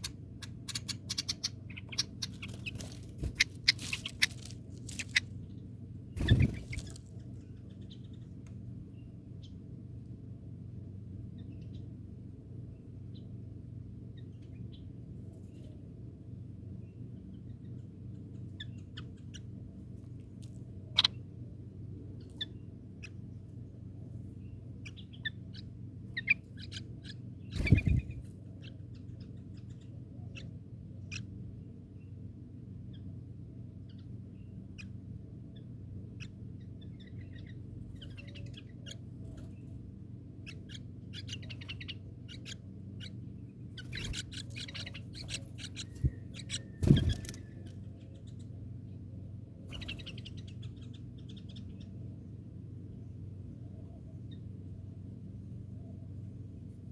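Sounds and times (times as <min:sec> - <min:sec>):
birds chirping: 0:00.0 - 0:09.8, 0:16.5 - 0:56.8
steady low hum: 0:00.0 - 0:56.9.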